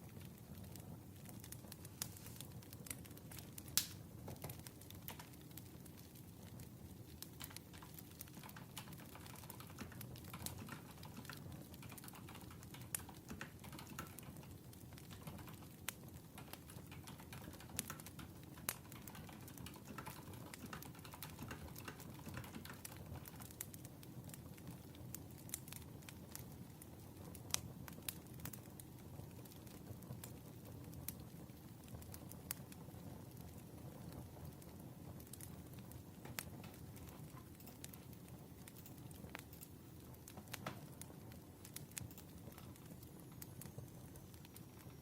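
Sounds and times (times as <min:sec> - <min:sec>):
fire crackles and pops: 0:00.0 - 0:45.0
low rumble of burning wood: 0:00.0 - 0:45.0.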